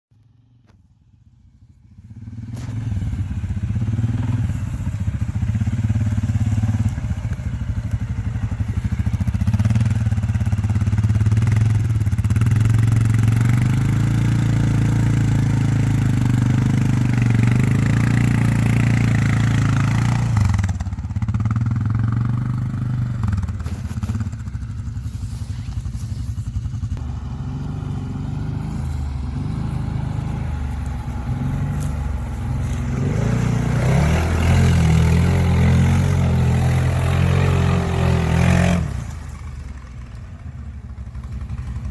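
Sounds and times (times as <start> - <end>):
atv engine running: 1.4 - 41.9.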